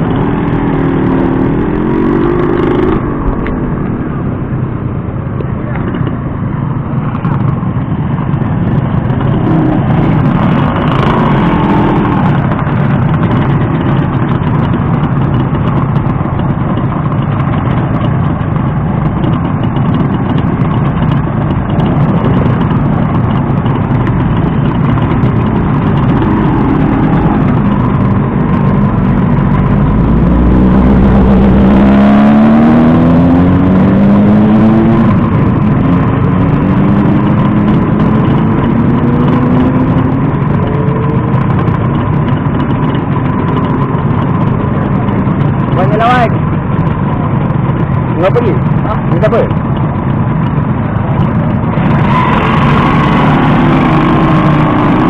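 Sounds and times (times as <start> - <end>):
motorcycle engine running: 0.0 - 55.0
steady rushing noise: 0.0 - 55.0.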